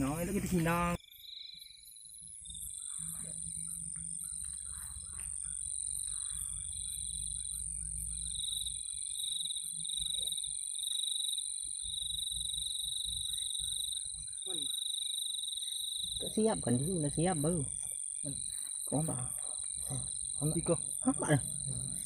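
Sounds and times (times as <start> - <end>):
frog calls: 0.0 - 22.0.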